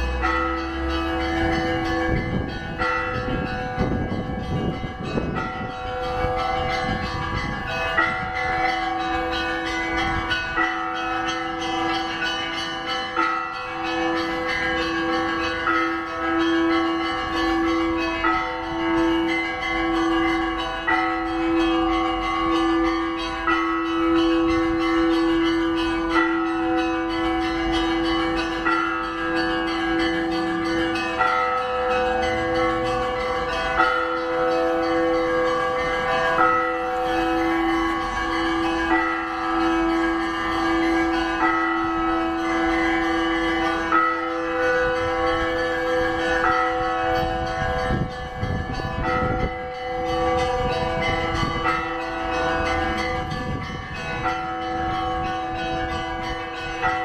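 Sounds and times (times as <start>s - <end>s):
hum of large bells: 0.0s - 57.0s
small church bells pealing: 0.0s - 57.0s.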